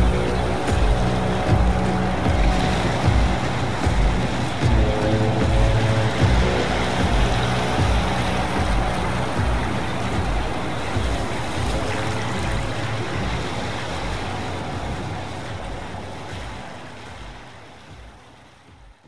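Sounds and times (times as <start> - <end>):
low hum: 0.0 - 17.4
steady rushing noise: 0.0 - 19.0.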